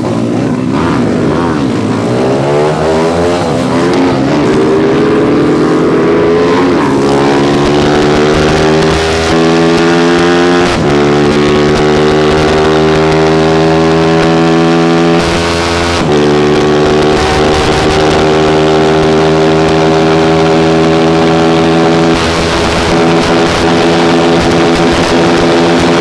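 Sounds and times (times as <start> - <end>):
motorcycle engine running hard: 0.0 - 26.0.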